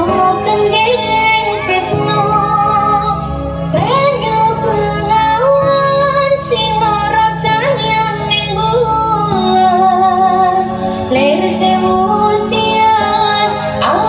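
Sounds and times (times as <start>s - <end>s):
woman singing over sound system: 0.0s - 14.0s.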